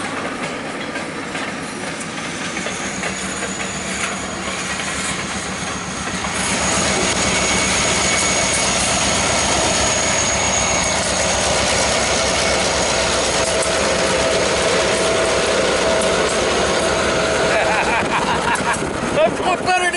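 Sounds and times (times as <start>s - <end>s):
diesel locomotive engine drone: 0.0s - 19.9s
wind: 0.0s - 19.9s.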